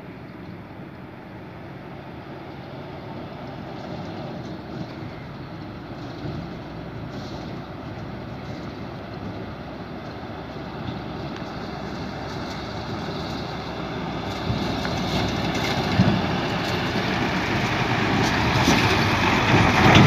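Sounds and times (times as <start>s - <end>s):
diesel truck engines rumbling: 0.0s - 20.0s.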